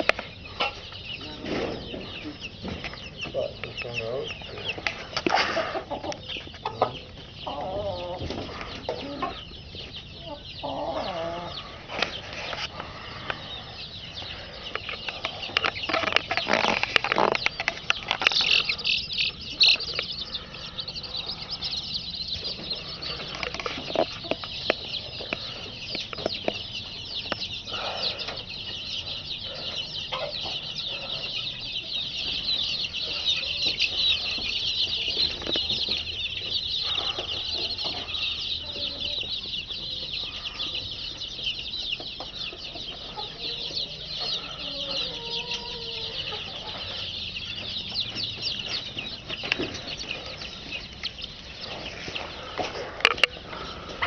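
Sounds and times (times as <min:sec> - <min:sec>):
chickens peeping and clucking: 0:00.0 - 0:54.0.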